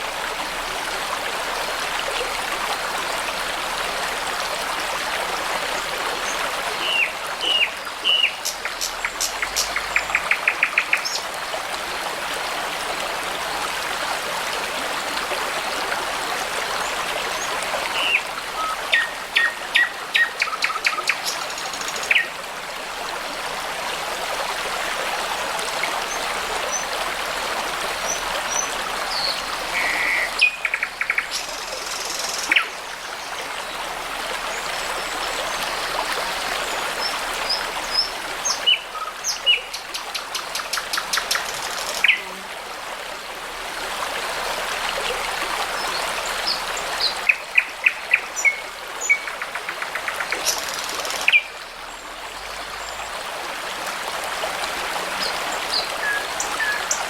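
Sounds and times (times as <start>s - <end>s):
brook babbling: 0.0s - 57.0s.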